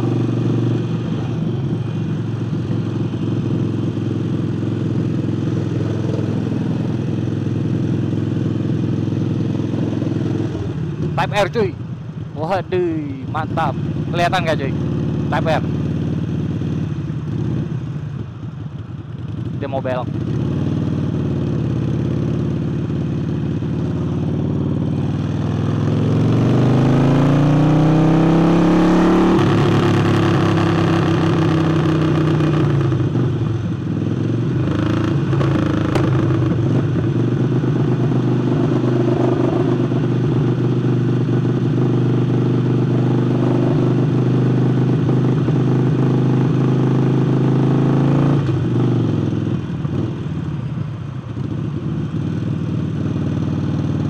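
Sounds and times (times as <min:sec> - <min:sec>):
motorcycle engine revving: 0:00.0 - 0:18.2, 0:19.2 - 0:50.6, 0:51.3 - 0:54.0.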